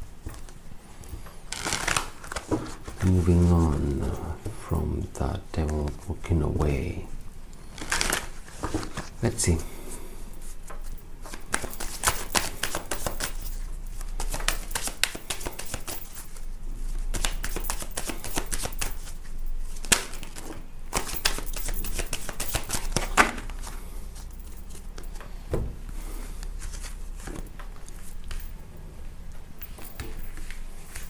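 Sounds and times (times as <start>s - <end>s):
cards being shuffled: 0.2s - 6.1s, 7.6s - 9.6s, 10.4s - 25.4s, 26.0s - 28.5s, 29.6s - 31.0s.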